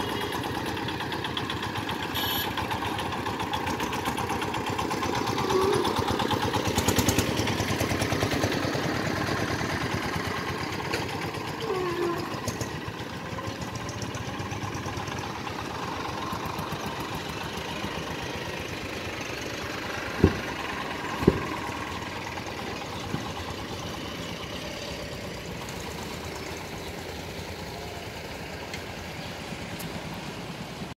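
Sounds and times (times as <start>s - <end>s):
traffic background: 0.0s - 30.9s
truck engines running: 0.0s - 30.9s.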